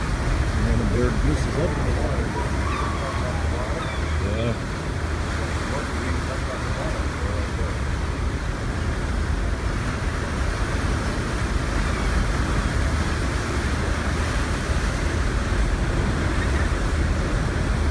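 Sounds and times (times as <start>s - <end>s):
ship steam engines rumbling: 0.0s - 17.9s
water churning in ship's wake: 0.0s - 17.9s.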